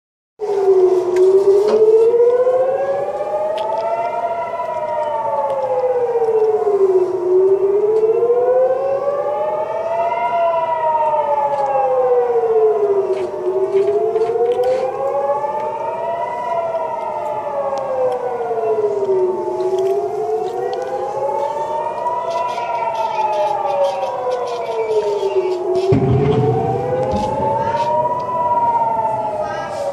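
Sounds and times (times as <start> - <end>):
air-raid siren wailing: 0.4 - 29.9.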